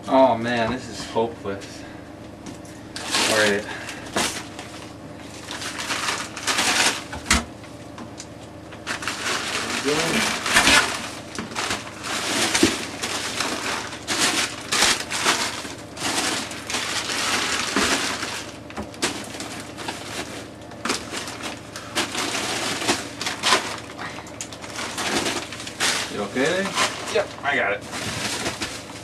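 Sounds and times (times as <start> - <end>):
frozen plastic wrappers crinkling: 3.0 - 7.2, 8.8 - 29.0.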